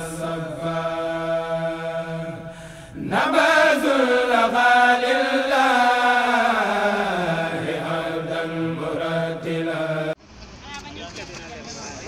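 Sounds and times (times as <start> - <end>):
person chanting a devotional song: 0.0 - 10.2.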